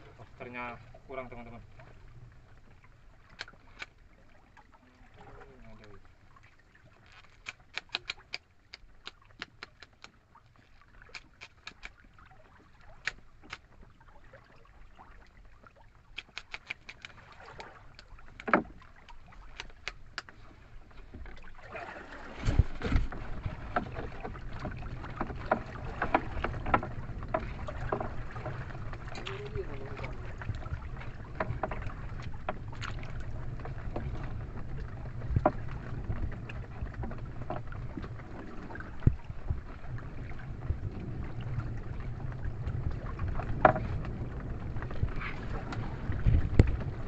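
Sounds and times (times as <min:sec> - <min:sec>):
rush of wind and water: 0:00.0 - 0:47.0.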